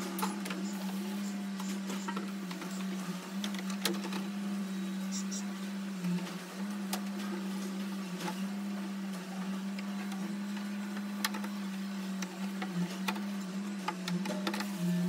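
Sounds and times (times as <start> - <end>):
electric motor hum: 0.0 - 15.0.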